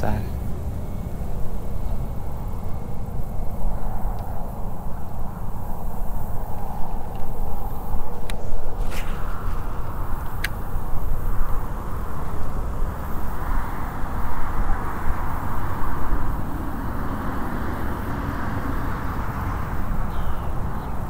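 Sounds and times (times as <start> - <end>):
highway traffic rumble: 0.0 - 21.0.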